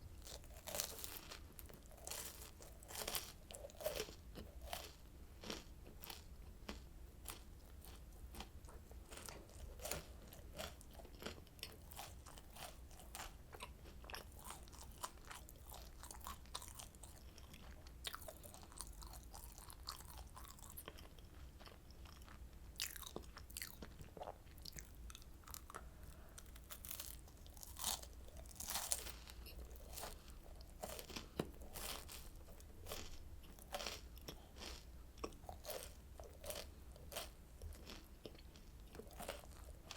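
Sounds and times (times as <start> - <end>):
crunching and chewing snack: 0.1 - 39.9.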